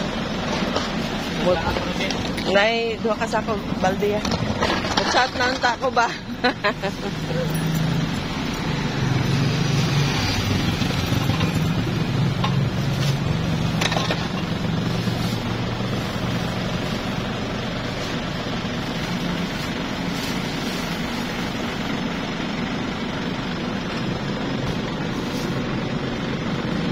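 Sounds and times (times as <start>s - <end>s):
truck engine idling: 0.0s - 26.9s.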